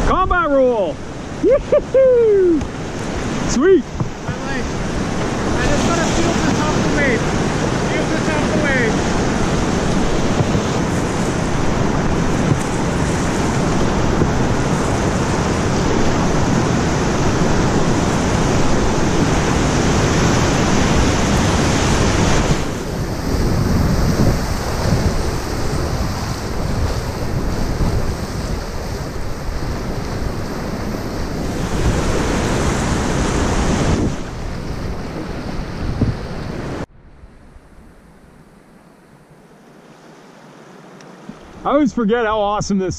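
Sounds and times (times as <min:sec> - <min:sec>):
rapids rushing and splashing: 0:00.0 - 0:36.9.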